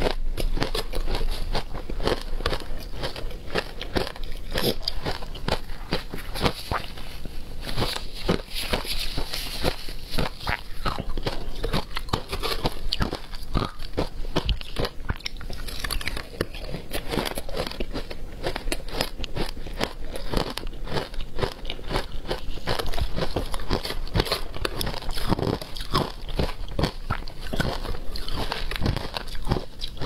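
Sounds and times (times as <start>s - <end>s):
shaved ice crunched and chewed: 0.0s - 30.0s.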